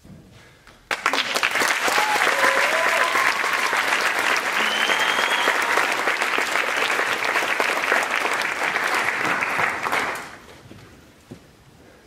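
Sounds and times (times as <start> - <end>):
audience clapping: 0.8 - 10.6.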